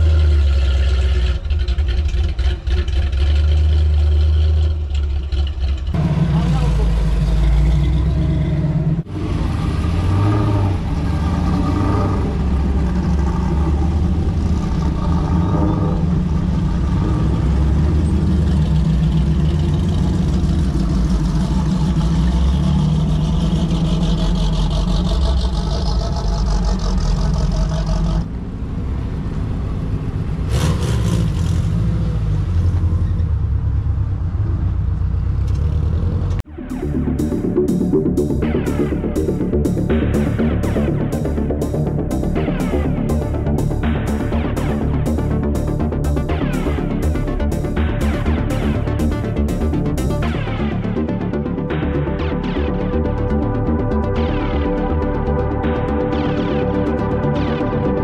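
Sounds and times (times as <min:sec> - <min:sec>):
car engines running at low revs: 0:00.0 - 0:58.0.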